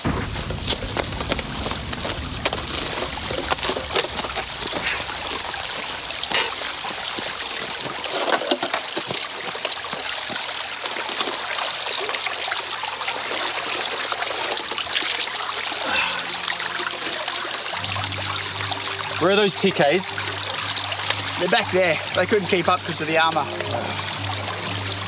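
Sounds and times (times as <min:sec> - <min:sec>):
water trickling over rocks: 0:00.0 - 0:25.0.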